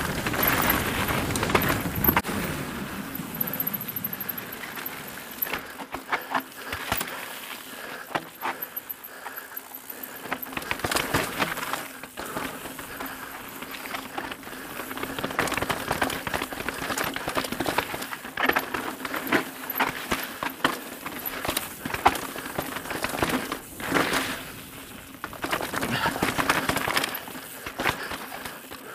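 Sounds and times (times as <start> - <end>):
bike clattering over bumps: 0.0 - 28.9
tyres crunching over gravel: 0.0 - 28.9.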